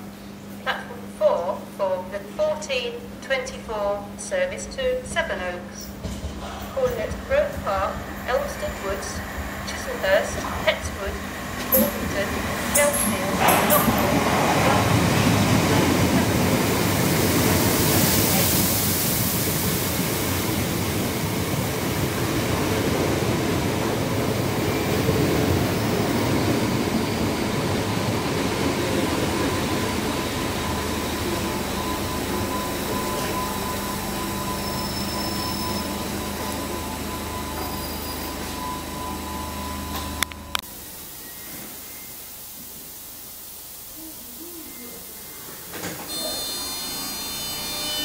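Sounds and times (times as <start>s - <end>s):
electric train passing: 3.8s - 48.0s.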